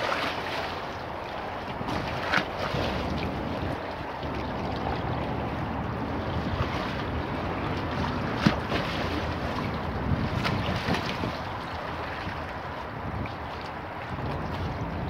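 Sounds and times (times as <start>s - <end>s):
river waves splashing against steps: 0.0s - 15.0s
wind on microphone: 0.0s - 15.0s.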